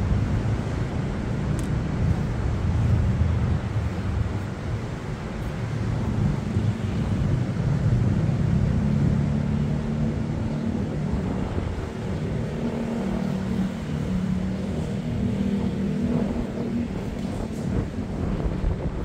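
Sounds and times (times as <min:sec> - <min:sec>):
low engine drone: 0:00.0 - 0:19.0
wind on microphone: 0:00.0 - 0:19.0.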